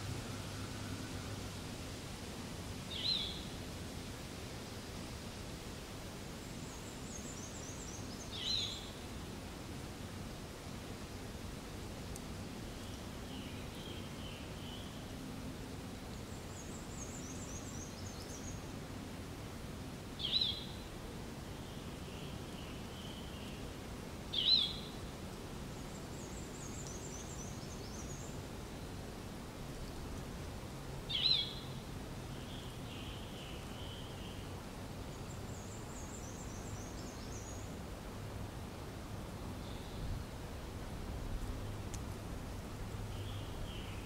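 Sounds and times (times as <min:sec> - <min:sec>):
background hiss: 0:00.0 - 0:44.0.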